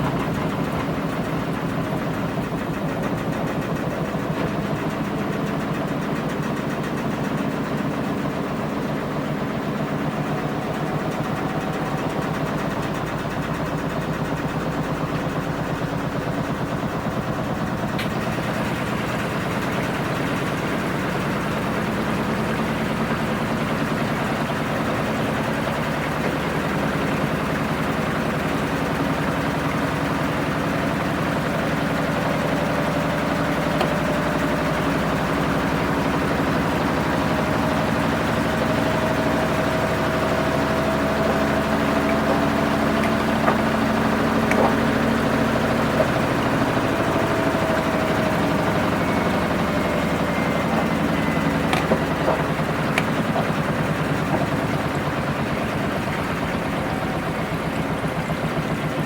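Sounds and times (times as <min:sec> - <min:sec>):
washing machine drum motor hum: 0:00.0 - 0:59.0.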